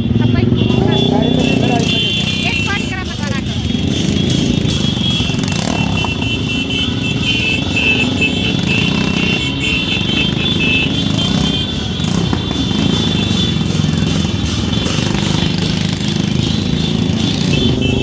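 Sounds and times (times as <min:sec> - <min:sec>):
motorcycle engines running: 0:00.0 - 0:18.0.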